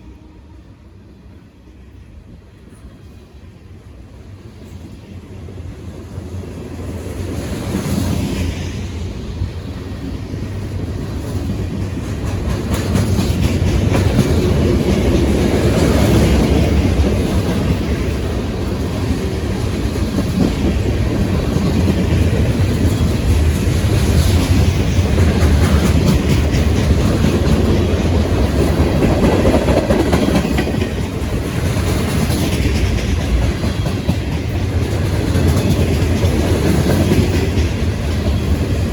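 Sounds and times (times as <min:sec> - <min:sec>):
train wheels clacking on rails: 0:04.6 - 0:38.9.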